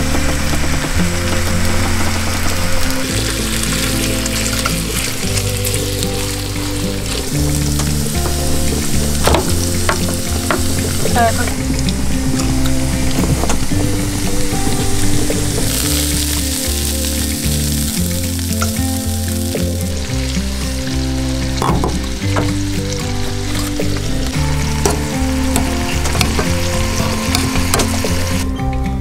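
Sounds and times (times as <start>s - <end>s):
food sizzling in a pan: 0.0s - 28.4s
background music with low notes: 0.0s - 29.0s.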